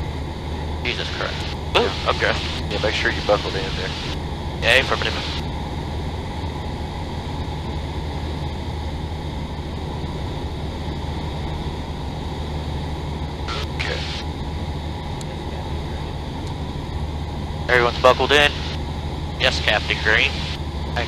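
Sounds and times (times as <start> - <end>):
propeller plane engine drone: 0.0 - 21.0.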